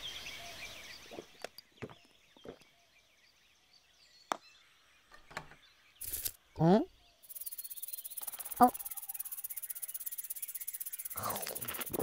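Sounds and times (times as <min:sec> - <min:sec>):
birdsong: 0:00.0 - 0:12.0.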